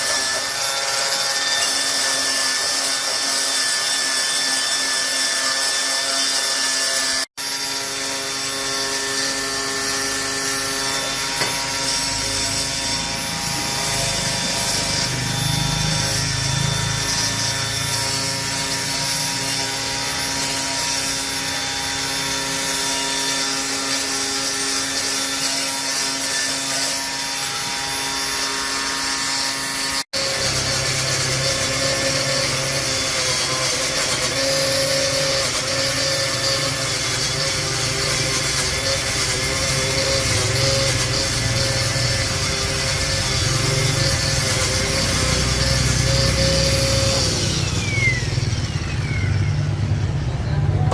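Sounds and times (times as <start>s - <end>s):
power tool motor whining: 0.0s - 50.9s.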